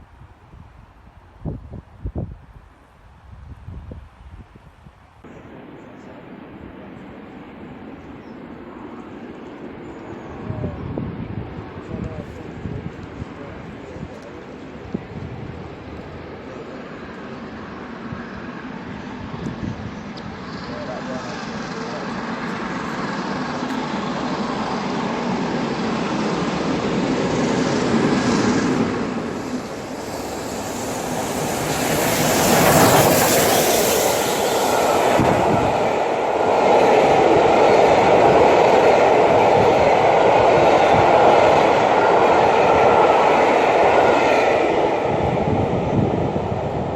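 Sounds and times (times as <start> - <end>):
steam train rolling past: 5.2 - 46.9.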